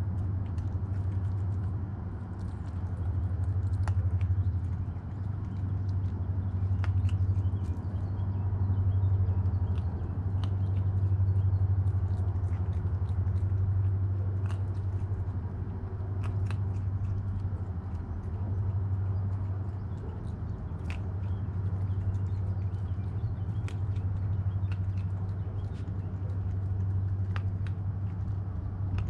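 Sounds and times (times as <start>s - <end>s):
animals crunching dry food: 0.0s - 29.0s
steady low hum: 0.0s - 29.0s.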